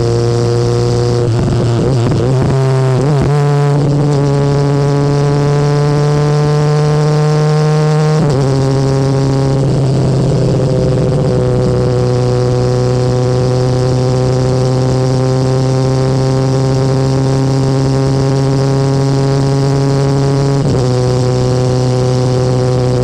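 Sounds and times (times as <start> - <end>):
motorcycle exhaust at steady revs: 0.0 - 23.0.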